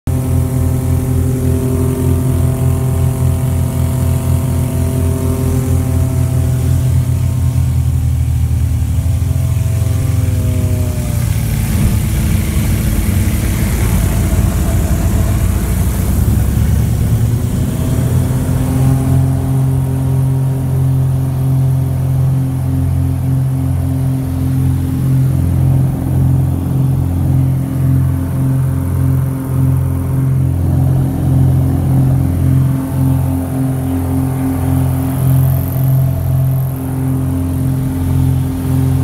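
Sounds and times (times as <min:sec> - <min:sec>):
aircraft engine drone in cabin: 0:00.1 - 0:39.0.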